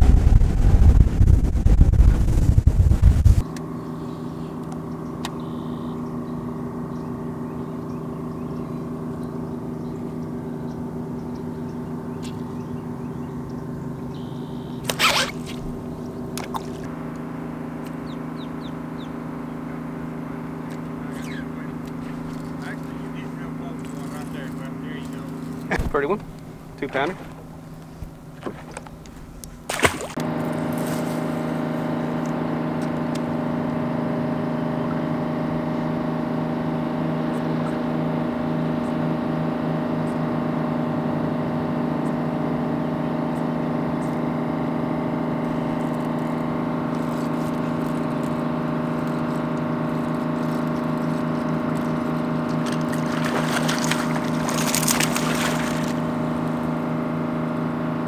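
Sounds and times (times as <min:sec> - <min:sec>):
electric boat motor humming: 0:00.0 - 0:58.0.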